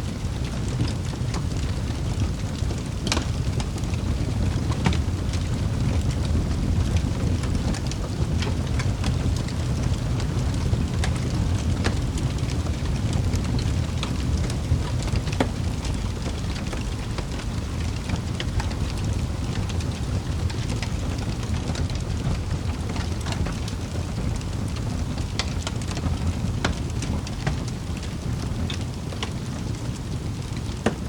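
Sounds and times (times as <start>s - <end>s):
fire crackles and pops: 0.0s - 31.0s
wood fire flames rushing: 0.0s - 31.0s.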